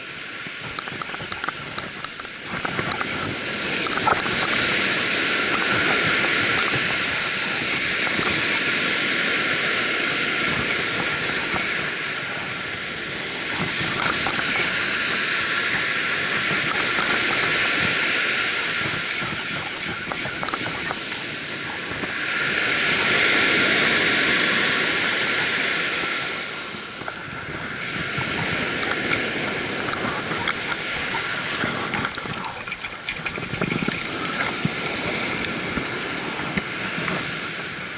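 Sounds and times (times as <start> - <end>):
surf washing on sandy beach: 0.0 - 37.9
wind hissing over microphone: 0.0 - 37.9.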